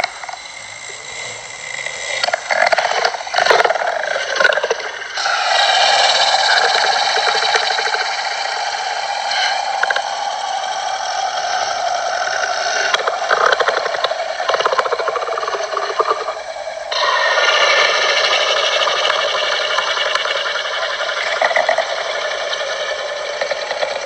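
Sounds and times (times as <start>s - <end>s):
harsh buzzing creature rasp: 0.0s - 24.0s.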